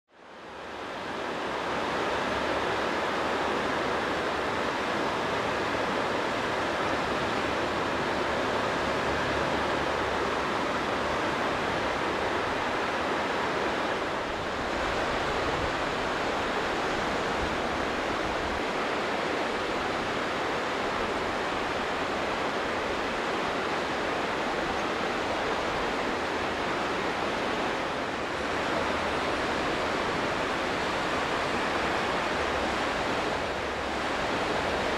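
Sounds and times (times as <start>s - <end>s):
fast-flowing river water rushing: 0.2s - 34.9s.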